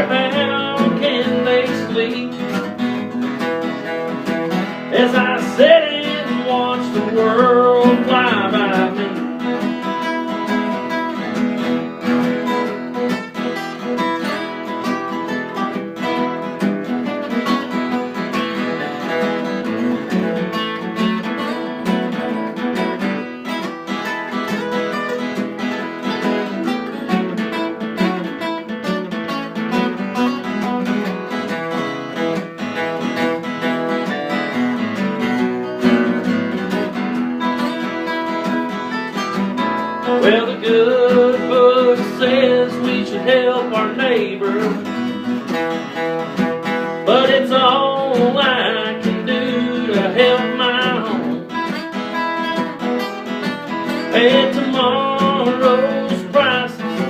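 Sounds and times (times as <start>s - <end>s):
acoustic guitar country music: 0.0s - 57.0s.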